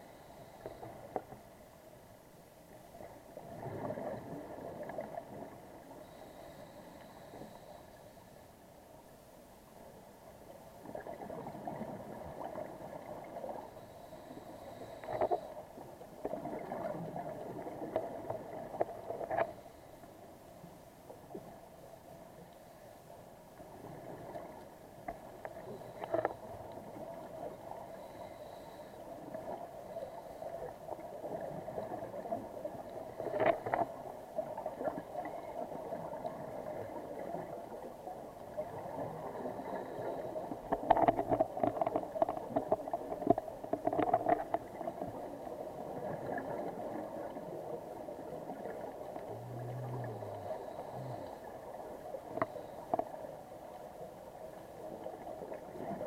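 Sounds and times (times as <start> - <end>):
muffled underwater drone: 0.0 - 56.0.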